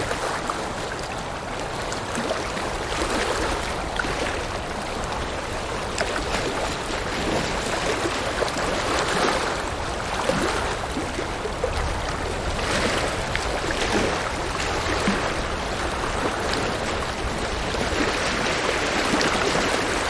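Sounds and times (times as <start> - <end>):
river water rushing over rocks: 0.0 - 20.0.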